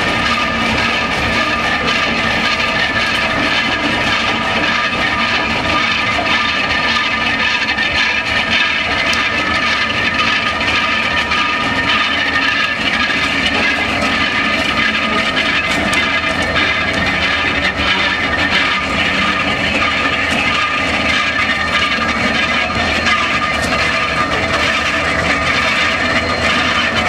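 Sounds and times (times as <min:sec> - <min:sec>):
diesel locomotive idling: 0:00.0 - 0:27.0
steady whining tones: 0:00.0 - 0:27.0.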